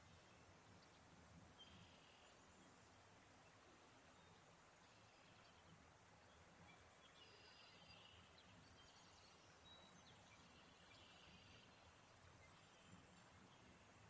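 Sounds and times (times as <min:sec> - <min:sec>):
faint bird chirps: 0:00.0 - 0:02.8, 0:03.4 - 0:14.0.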